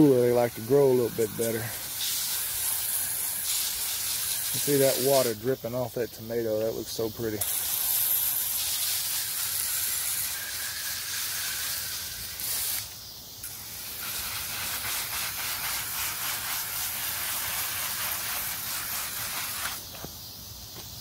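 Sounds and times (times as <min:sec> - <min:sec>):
garden hose spraying water: 0:00.0 - 0:21.0.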